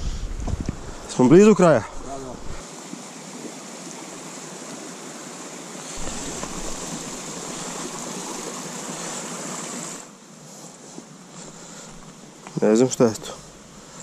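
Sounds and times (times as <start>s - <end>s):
stream water rushing: 0.9s - 14.0s.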